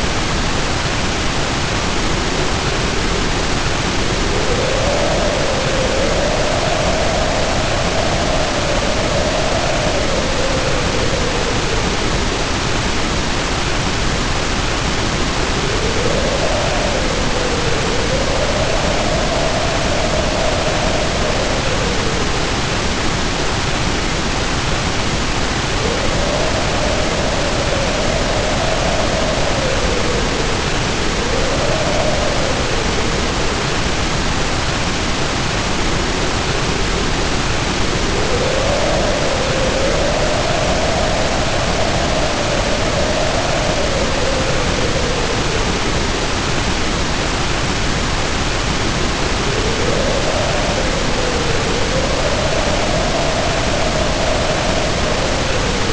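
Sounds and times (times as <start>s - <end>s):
heavy rain rushing: 0.0s - 55.9s
wind howling in gusts: 0.0s - 55.9s.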